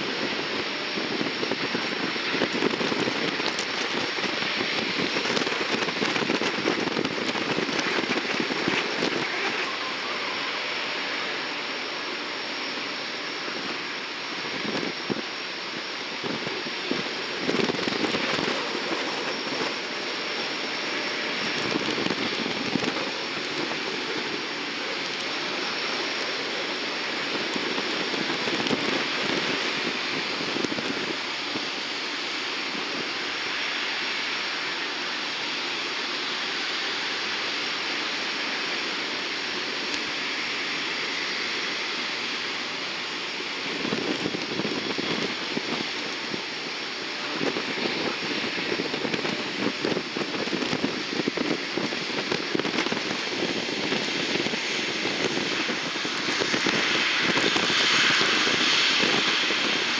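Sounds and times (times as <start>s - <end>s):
jet engine rushing: 0.0s - 59.9s.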